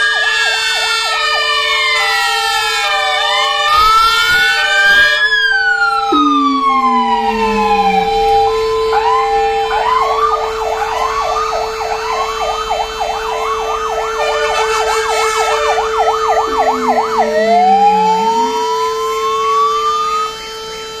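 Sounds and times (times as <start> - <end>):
fire engine sirens wailing and yelping: 0.0 - 21.0
steady held siren tone: 0.0 - 21.0.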